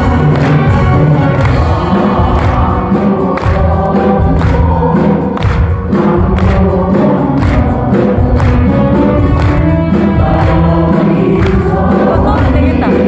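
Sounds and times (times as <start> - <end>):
band accompaniment with steady beat: 0.0 - 13.0
voices singing together: 0.0 - 13.0.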